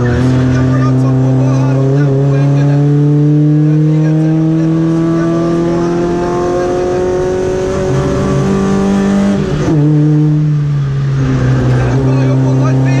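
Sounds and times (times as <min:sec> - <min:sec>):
car engine revving under throttle: 0:00.0 - 0:13.0.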